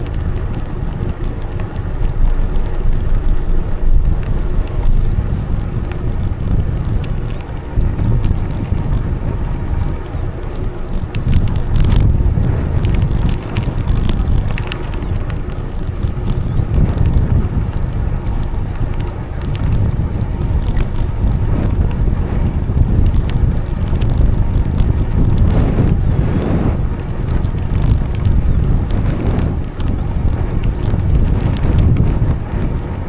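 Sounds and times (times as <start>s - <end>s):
bicycle tyre rumble: 0.0s - 33.0s
bike clicks and rattles: 0.0s - 33.0s
wind buffeting microphone: 0.0s - 33.0s.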